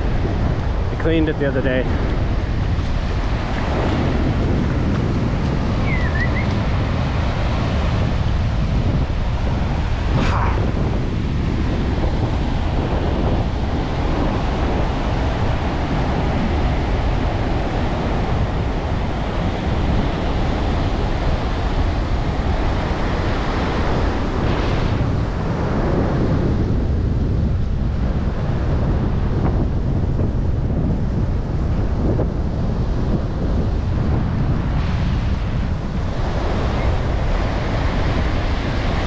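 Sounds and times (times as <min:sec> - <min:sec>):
ocean surf breaking: 0:00.0 - 0:26.3, 0:33.8 - 0:39.0
wind buffeting microphone: 0:00.0 - 0:39.0.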